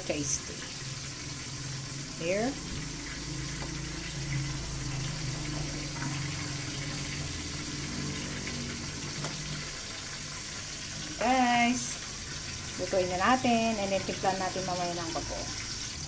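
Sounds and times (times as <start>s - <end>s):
low hum: 0.0s - 15.7s
soup simmering hiss: 0.0s - 16.0s.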